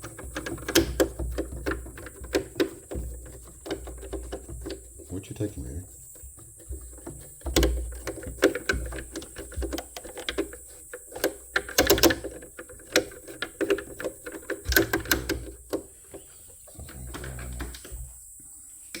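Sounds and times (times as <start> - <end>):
tools and machine parts clicking: 0.0 - 5.6, 6.3 - 16.3.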